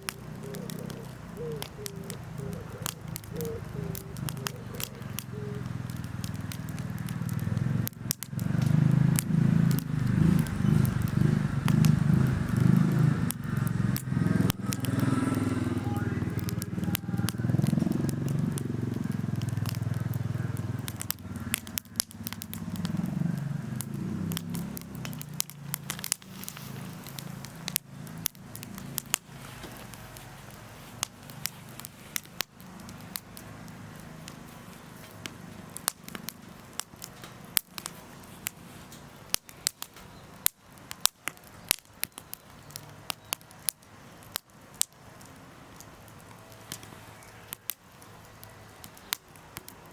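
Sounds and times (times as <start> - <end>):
campfire crackling and snapping: 0.0 - 49.9.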